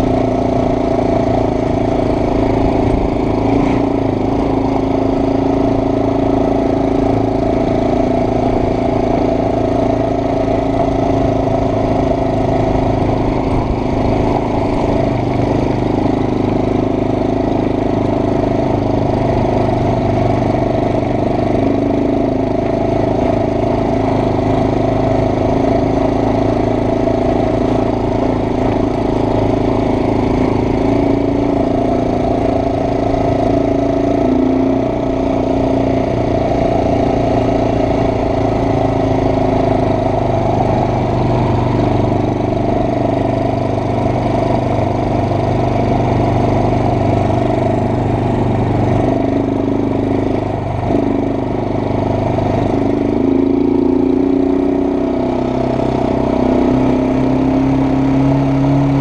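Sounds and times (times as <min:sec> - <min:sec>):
atv engine droning: 0:00.0 - 0:59.0.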